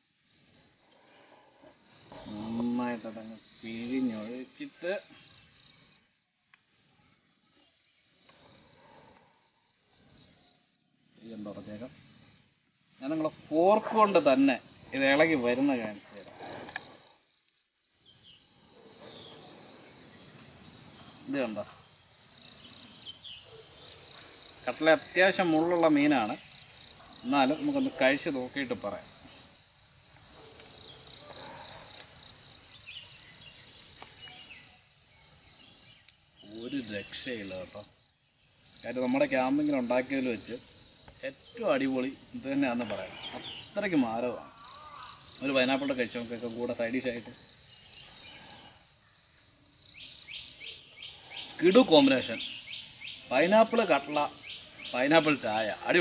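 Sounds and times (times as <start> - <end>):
crickets chirring: 0.0 - 56.0
insects buzzing: 0.0 - 56.0.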